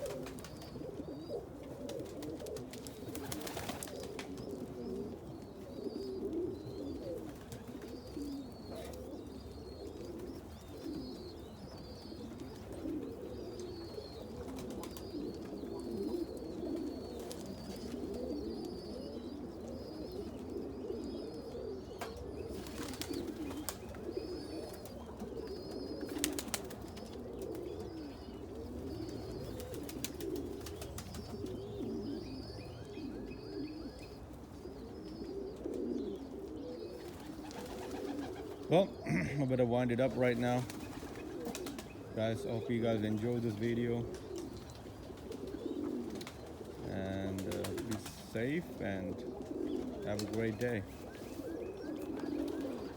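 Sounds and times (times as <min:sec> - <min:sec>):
pigeons cooing: 0:00.0 - 0:52.9.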